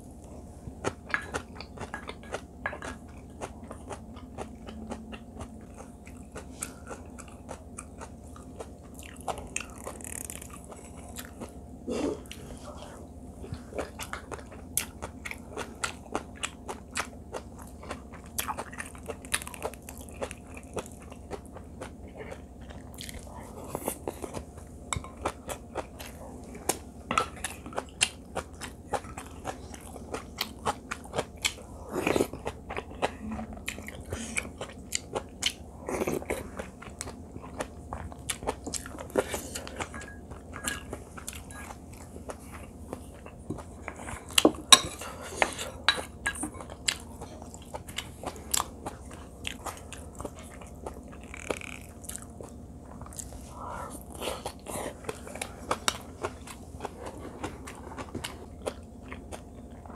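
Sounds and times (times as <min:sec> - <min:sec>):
person chewing and crunching: 0:00.2 - 0:59.9.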